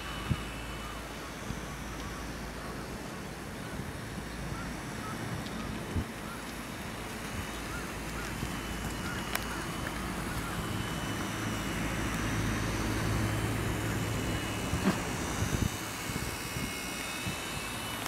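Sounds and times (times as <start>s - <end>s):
aircraft motor drone: 0.0s - 18.0s
thin high whine: 0.0s - 18.0s
wind on microphone: 0.0s - 18.0s.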